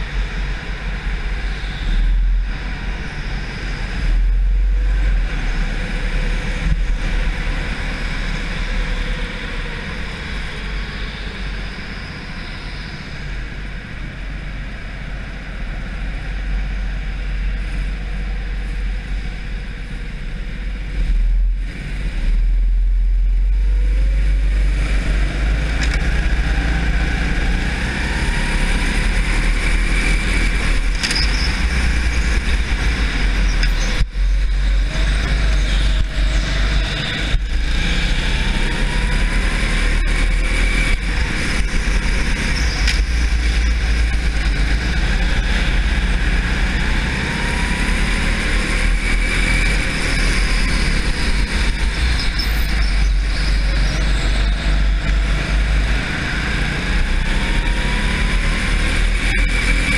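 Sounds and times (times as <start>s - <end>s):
go-kart engine: 0.0s - 59.9s
wind rumble on microphone: 0.0s - 59.9s.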